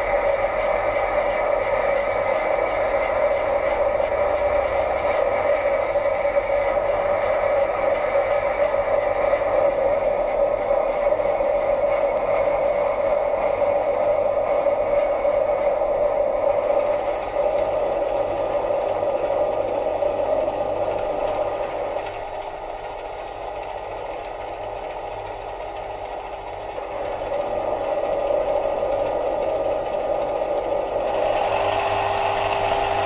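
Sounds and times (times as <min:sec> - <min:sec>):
lathe motor whining: 0:00.0 - 0:33.0.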